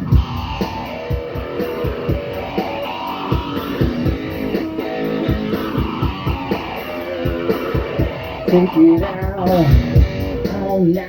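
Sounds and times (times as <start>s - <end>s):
guitar-led instrumental music: 0.0s - 11.0s
steady low beat: 0.0s - 11.0s.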